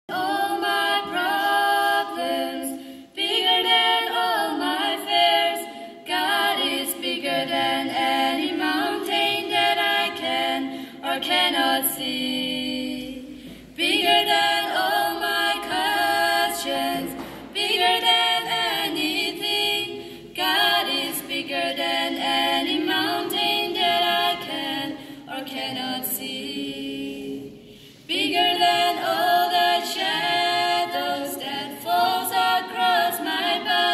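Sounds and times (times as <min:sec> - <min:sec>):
girls singing unaccompanied: 0:00.1 - 0:33.9.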